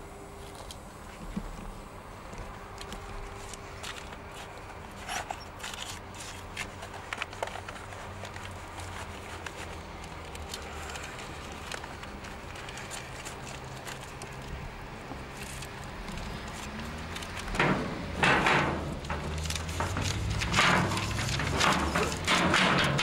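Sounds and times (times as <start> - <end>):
steady low hum: 0.0 - 23.0
paper rustling: 2.8 - 14.6, 15.2 - 23.0.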